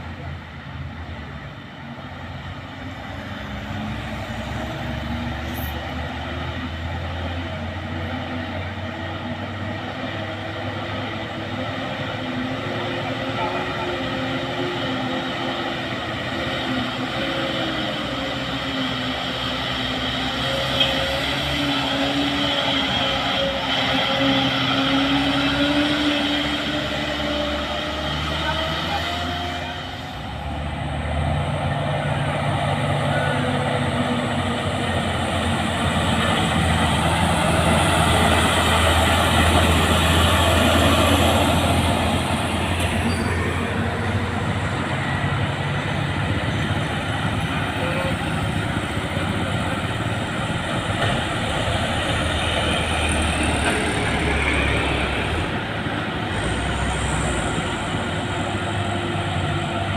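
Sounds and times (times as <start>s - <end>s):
diesel truck engines labouring: 0.0s - 59.9s.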